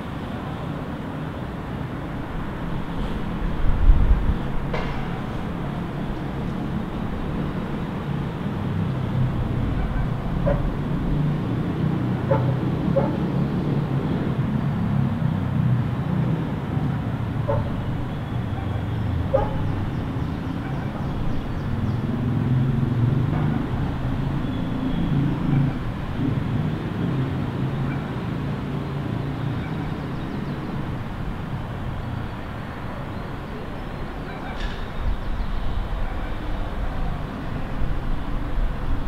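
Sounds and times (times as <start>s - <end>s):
city traffic rumble: 0.0s - 39.0s.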